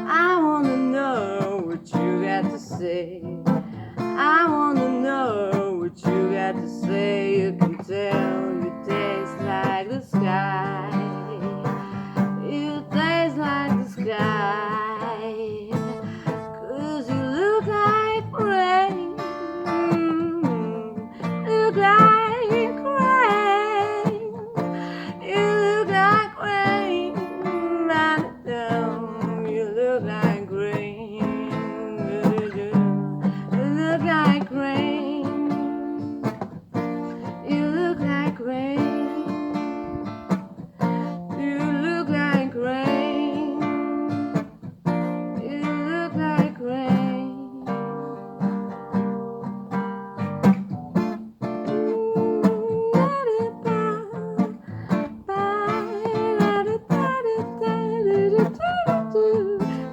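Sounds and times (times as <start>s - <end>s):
person singing wordless lines: 0.0s - 48.8s, 51.4s - 59.9s
acoustic guitar playing: 0.0s - 59.9s.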